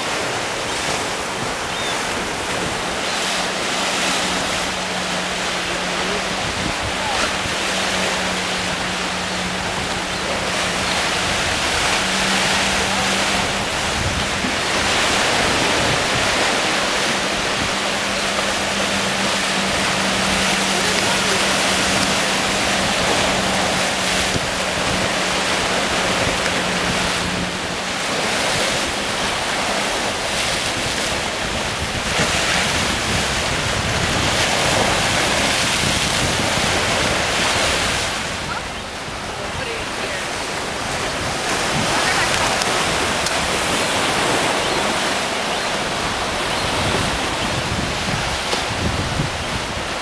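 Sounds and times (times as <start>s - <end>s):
surf breaking over rocks: 0.0s - 50.0s.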